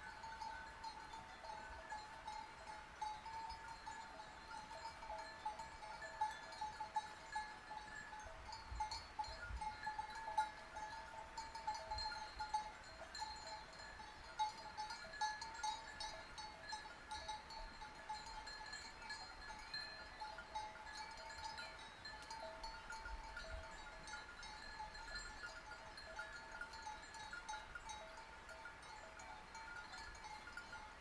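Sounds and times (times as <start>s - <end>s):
sheep bells clinking: 0.0s - 31.0s.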